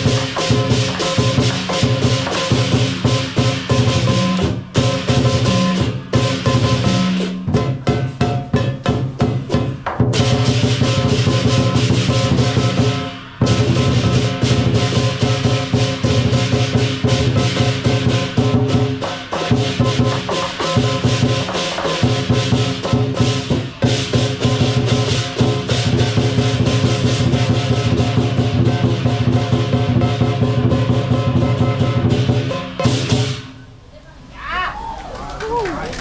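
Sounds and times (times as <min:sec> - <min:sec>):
drum and cymbal strikes: 0:00.0 - 0:33.8.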